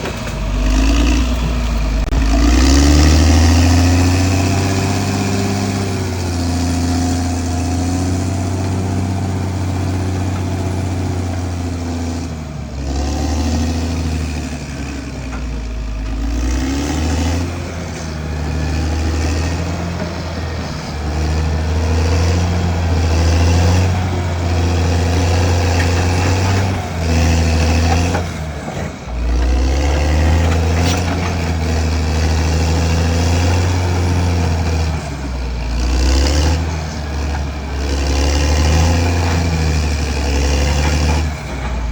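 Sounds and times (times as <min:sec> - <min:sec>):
bulldozer diesel engine under load: 0:00.0 - 0:41.9.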